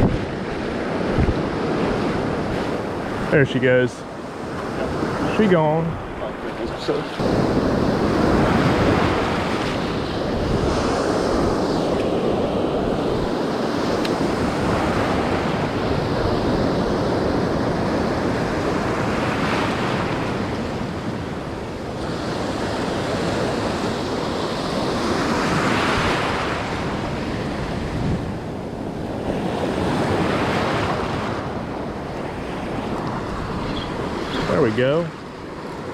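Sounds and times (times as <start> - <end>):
ocean surf on sandy beach: 0.0 - 35.9
waves breaking: 0.0 - 35.9.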